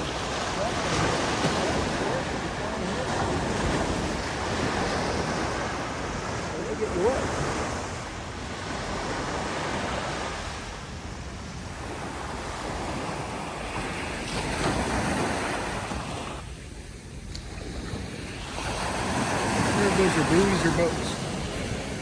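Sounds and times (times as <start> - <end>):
ocean surf washing: 0.0 - 22.0
wind on microphone: 0.0 - 22.0.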